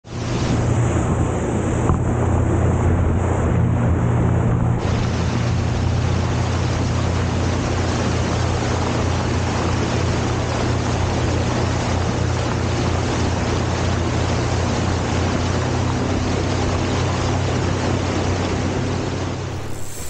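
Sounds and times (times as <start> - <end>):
outboard engine running: 0.0 - 20.0
rushing water and wind: 0.0 - 20.0.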